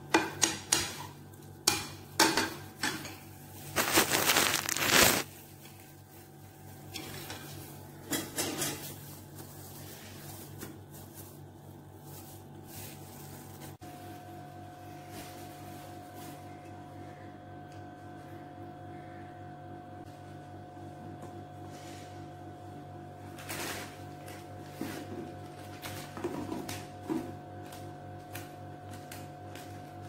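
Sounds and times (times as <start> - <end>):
faint steady hum: 1.0 - 30.0.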